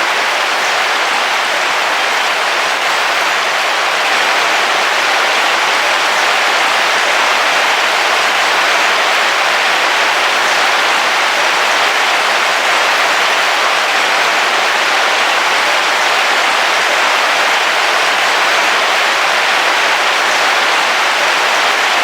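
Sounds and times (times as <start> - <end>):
heavy rain on vehicle roof: 0.0 - 22.0.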